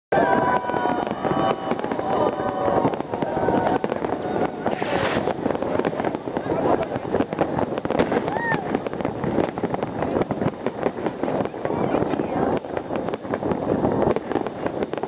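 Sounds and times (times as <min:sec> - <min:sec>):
fireworks crackling: 0:00.1 - 0:15.0
firework whistling: 0:00.2 - 0:15.0.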